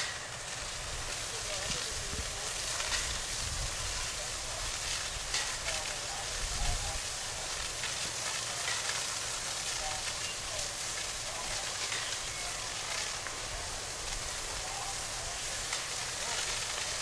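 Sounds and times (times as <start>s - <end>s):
fire crackling and hissing: 0.0s - 17.0s
fire hose water jet: 0.0s - 17.0s.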